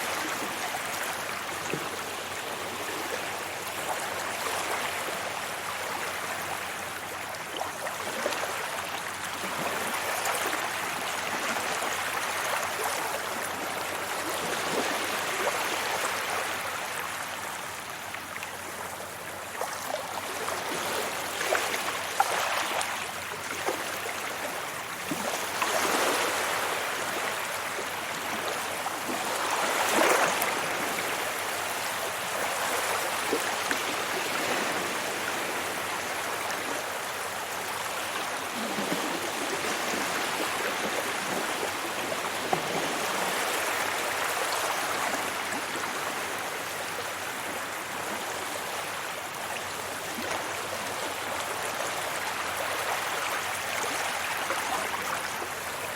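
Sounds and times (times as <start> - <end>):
small waves washing on beach: 0.0 - 55.9.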